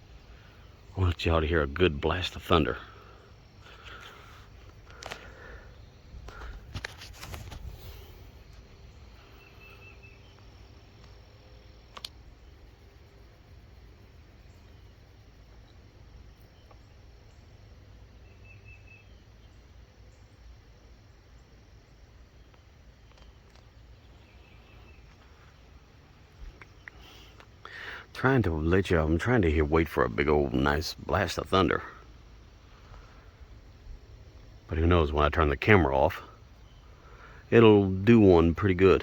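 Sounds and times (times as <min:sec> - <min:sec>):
steady low rumble: 0:00.0 - 0:18.2, 0:19.4 - 0:39.0.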